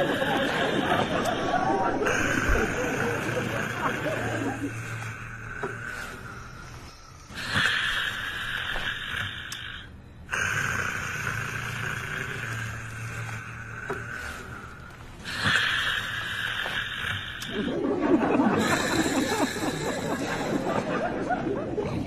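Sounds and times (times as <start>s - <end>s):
person snoring heavily: 0.0s - 22.0s.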